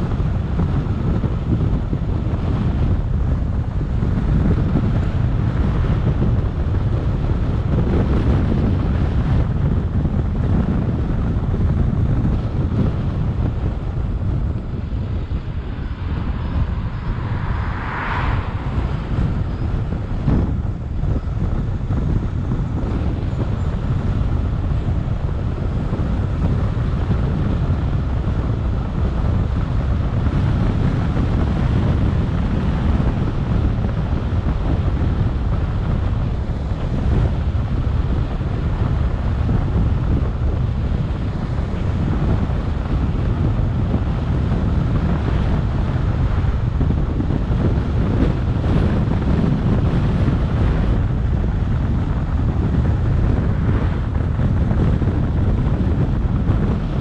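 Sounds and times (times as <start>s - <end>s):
road noise: 0.0s - 57.0s
wind rumbling over microphone: 0.0s - 57.0s.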